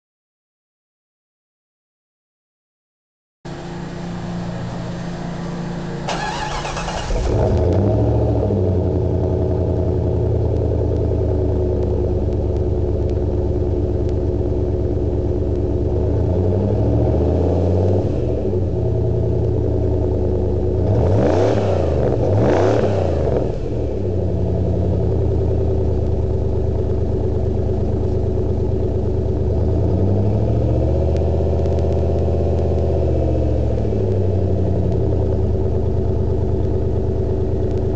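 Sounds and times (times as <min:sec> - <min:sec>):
engine exhaust idling and revving: 0:03.5 - 0:37.9.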